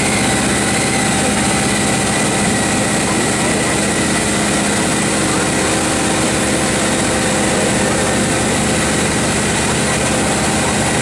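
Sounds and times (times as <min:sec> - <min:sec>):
excavator engine drone: 0:00.0 - 0:11.0.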